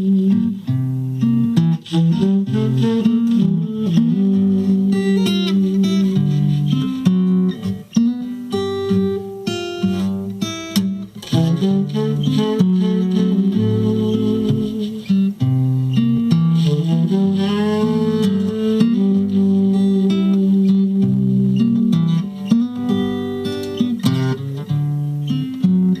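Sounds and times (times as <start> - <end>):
blues guitar music: 0.0 - 26.0.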